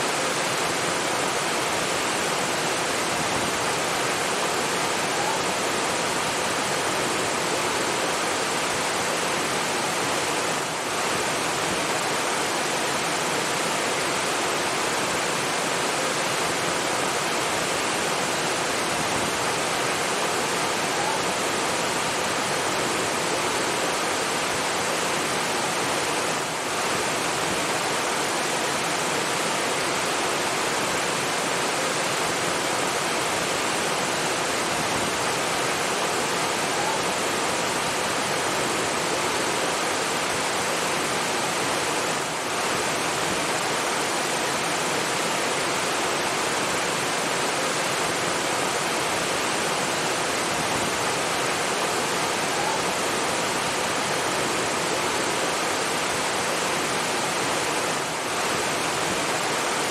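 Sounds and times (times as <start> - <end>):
rushing falling water: 0.0 - 59.9.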